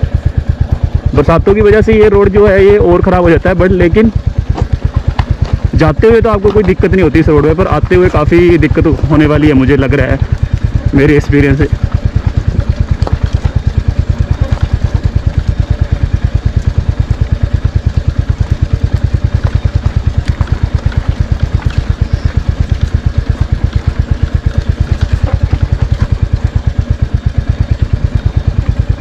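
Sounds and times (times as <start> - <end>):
motorcycle engine thumping: 0.0 - 29.0.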